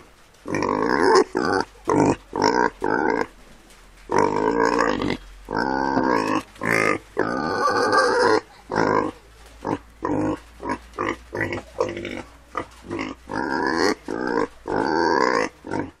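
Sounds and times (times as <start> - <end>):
pig grunting: 0.4 - 3.3, 4.1 - 16.0.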